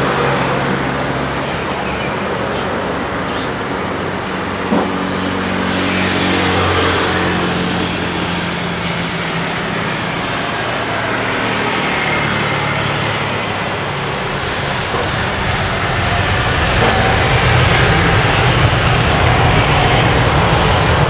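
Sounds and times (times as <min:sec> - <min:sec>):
loud engine roar: 0:00.0 - 0:21.0.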